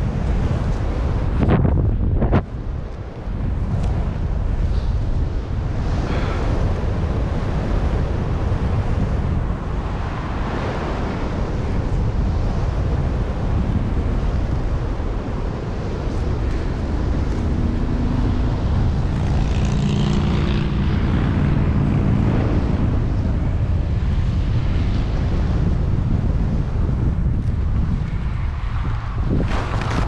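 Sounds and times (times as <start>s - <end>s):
faint engine hum: 0.0s - 30.0s
loud wind rumble: 0.0s - 30.0s.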